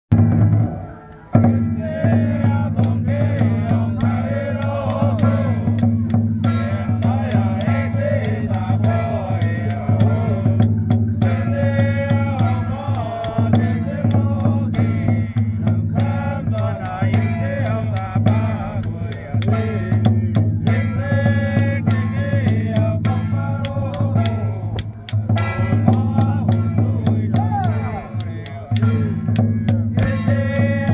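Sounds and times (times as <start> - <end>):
barrel drum strikes: 0.1 - 30.9
person chanting: 0.8 - 30.9.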